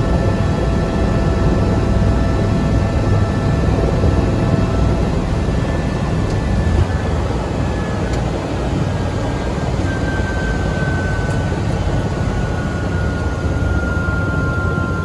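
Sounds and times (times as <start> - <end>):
helicopter engine and rotor rumble: 0.0 - 15.0.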